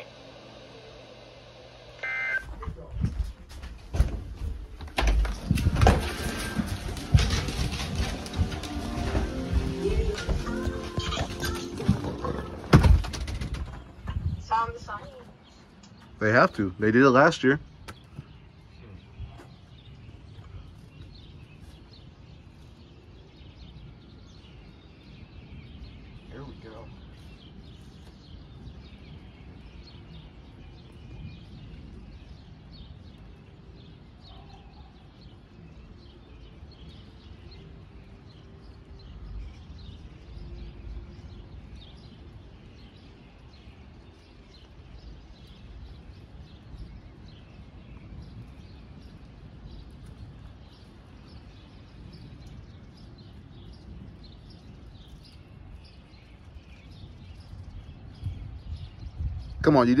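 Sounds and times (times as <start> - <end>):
birds chirping: 0.0 - 60.0
wind rumble on microphone: 2.6 - 16.9, 17.6 - 60.0.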